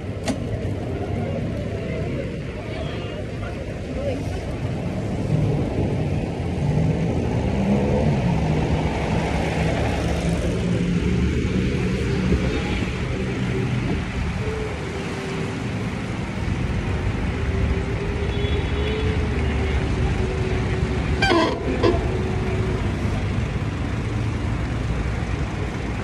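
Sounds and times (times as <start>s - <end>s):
wind rumbling on microphone: 0.1s - 23.8s.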